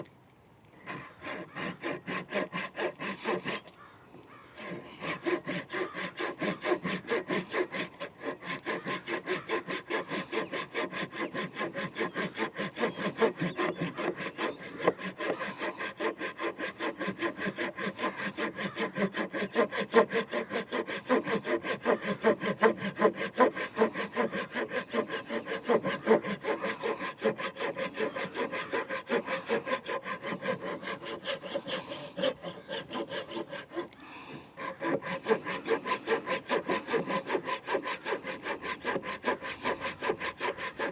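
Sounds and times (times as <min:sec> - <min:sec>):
pull saw cutting wood: 0:00.8 - 0:03.8, 0:04.5 - 0:40.9.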